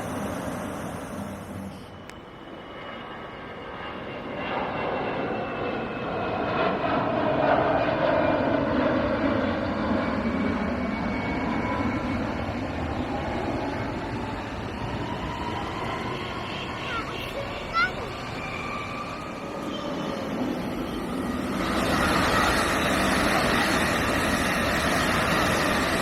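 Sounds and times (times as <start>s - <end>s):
airliner flying over: 0.0s - 26.0s
high jet whine: 0.0s - 26.0s.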